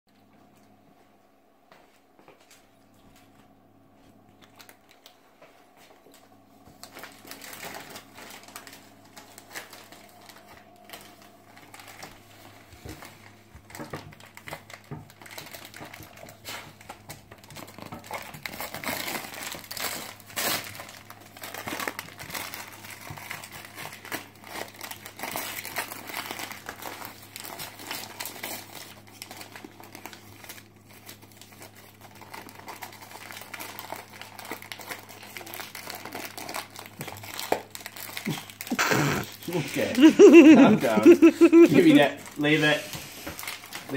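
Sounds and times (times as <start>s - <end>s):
wrapping paper crinkling and tearing: 4.2s - 43.9s.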